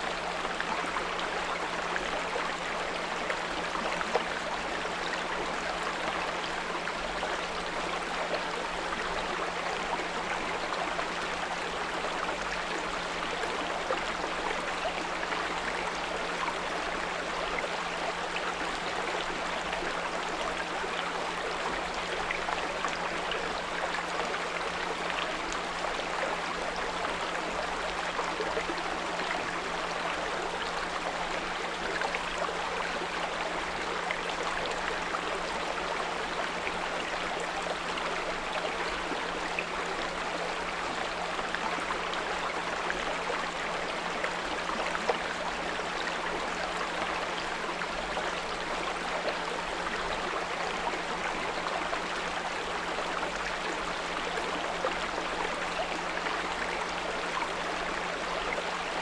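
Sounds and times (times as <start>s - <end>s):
brook flowing: 0.0s - 59.0s.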